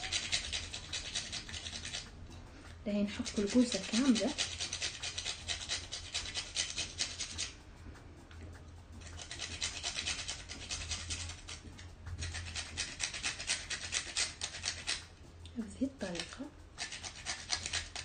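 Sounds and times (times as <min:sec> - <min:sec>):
nutmeg rasping on grater: 0:00.0 - 0:02.2, 0:02.9 - 0:07.6, 0:09.0 - 0:18.0.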